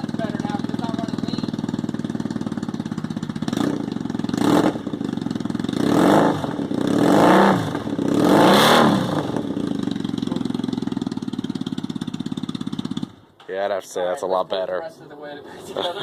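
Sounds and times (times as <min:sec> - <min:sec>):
motorcycle engine idling and revving: 0:00.0 - 0:13.4.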